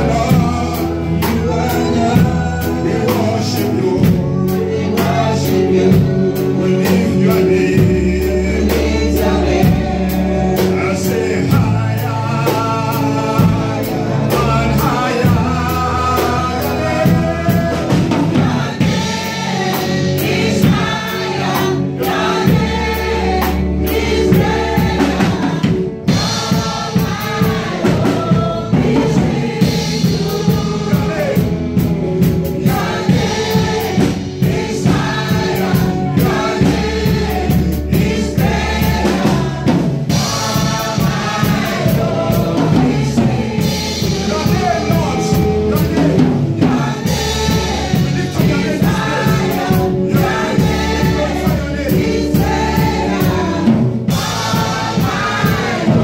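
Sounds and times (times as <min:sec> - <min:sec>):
amplified guitars: 0:00.0 - 0:56.0
group singing in harmony: 0:00.0 - 0:56.0
low bass notes: 0:00.0 - 0:56.0
steady beat: 0:07.8 - 0:56.0.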